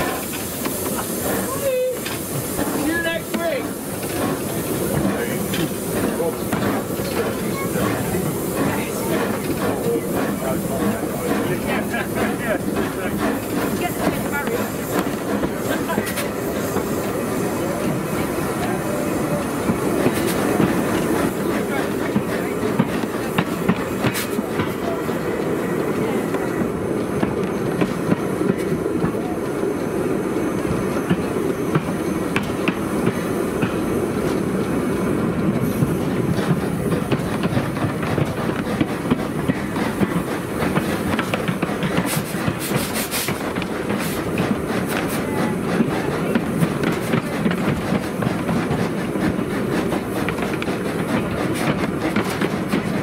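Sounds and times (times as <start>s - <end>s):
steam locomotive rumble: 0.0s - 53.0s.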